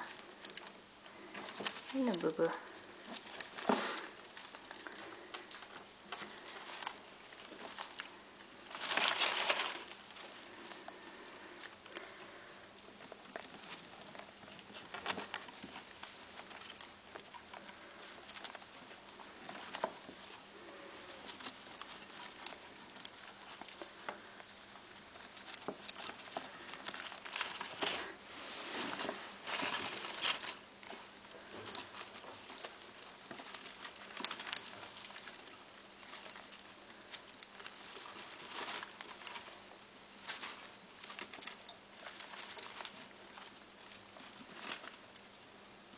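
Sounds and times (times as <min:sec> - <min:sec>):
short rustles: 0:00.0 - 0:45.1
rats eating small clicks: 0:00.0 - 0:45.9.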